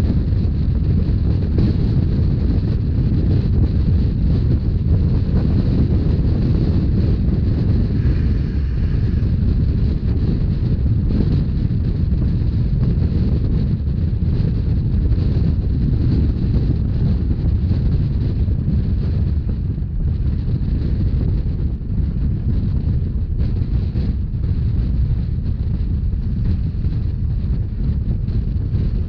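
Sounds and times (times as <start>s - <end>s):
train rumbling: 0.0s - 29.0s
wind buffeting microphone: 0.0s - 29.0s.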